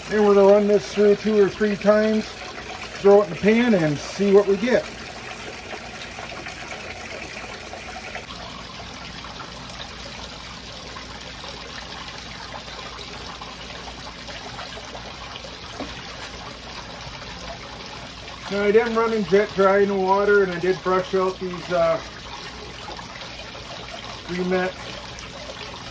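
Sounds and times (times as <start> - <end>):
water trickling down a sluice: 0.0 - 25.9.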